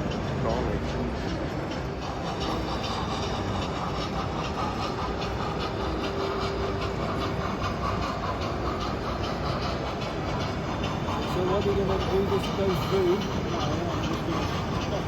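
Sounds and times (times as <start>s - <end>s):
exhibition hall background noise: 0.0s - 15.0s
model train wheels clicking: 0.0s - 15.0s.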